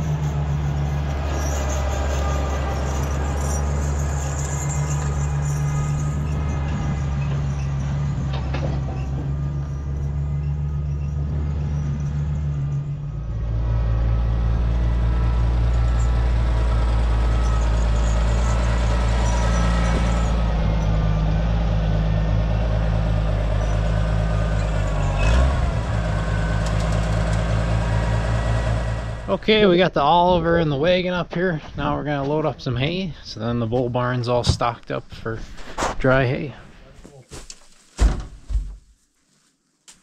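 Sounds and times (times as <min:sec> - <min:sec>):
tractor engine running: 0:00.0 - 0:35.4.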